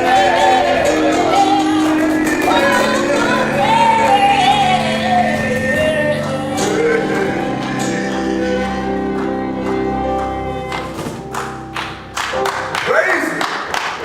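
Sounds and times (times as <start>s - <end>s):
person singing: 0.0s - 11.3s
held instrumental chords: 0.0s - 13.0s.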